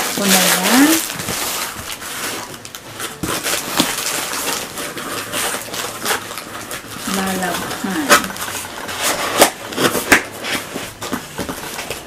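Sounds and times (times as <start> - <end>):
cardboard box rustling: 0.0 - 12.0.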